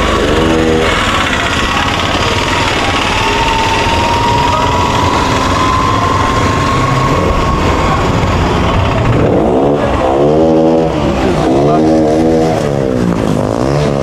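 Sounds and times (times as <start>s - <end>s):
street traffic rumble: 0.0s - 14.0s
vehicle engine whining: 0.0s - 14.0s.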